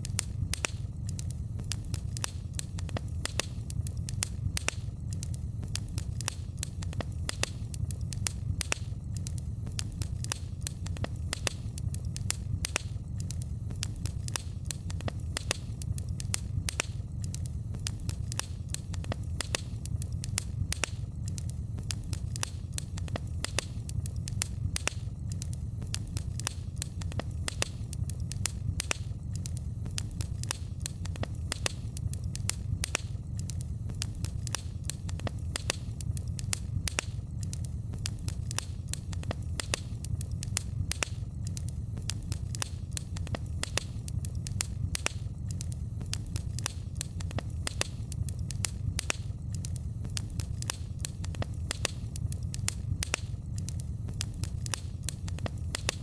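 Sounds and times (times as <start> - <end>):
low rumble of flames: 0.0 - 56.0
wood fire crackling: 0.0 - 56.0.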